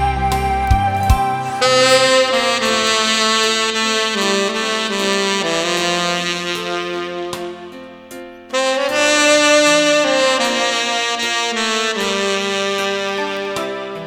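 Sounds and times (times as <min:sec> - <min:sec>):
backing track: 0:00.0 - 0:14.0
saxophone melody: 0:00.0 - 0:14.0.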